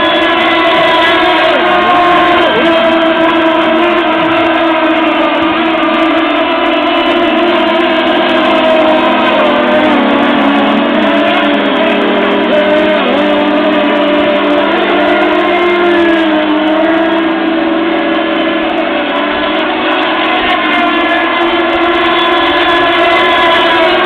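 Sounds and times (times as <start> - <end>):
model boat engines whining: 0.0 - 24.0.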